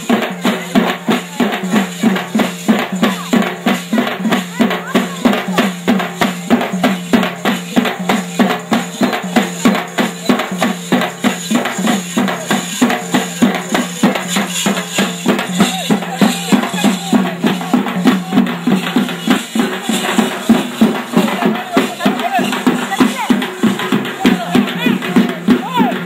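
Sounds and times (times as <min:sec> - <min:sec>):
fast procession drumming: 0:00.0 - 0:26.0.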